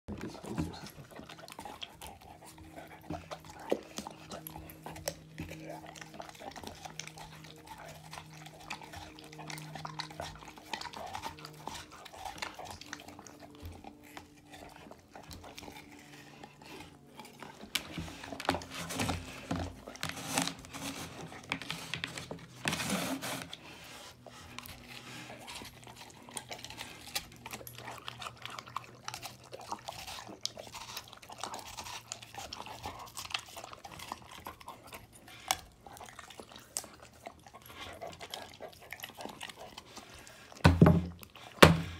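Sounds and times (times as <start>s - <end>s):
dog chewing watermelon: 0.1s - 41.9s.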